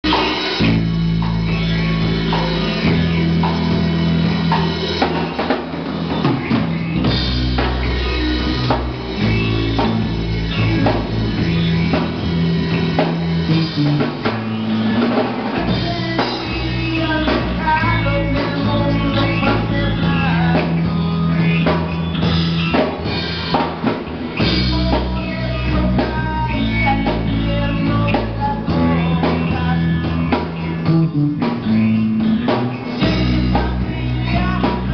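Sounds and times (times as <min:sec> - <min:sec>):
bass: 0:00.0 - 0:34.9
drum kit: 0:00.0 - 0:34.9
electric guitar: 0:00.0 - 0:34.9.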